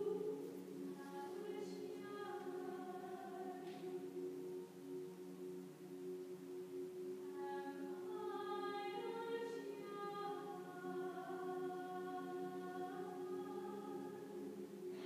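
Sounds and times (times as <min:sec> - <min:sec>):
choir singing soft chords: 0:00.0 - 0:15.0.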